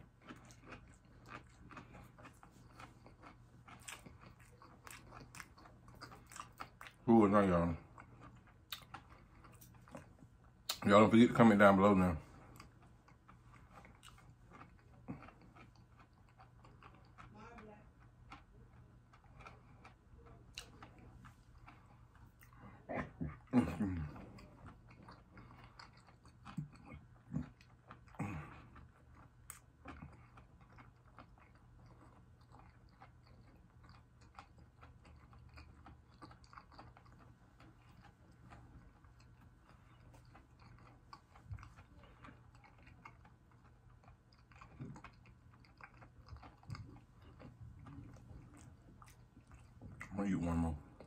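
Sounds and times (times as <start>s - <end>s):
chewing crispy food: 0.0s - 51.0s.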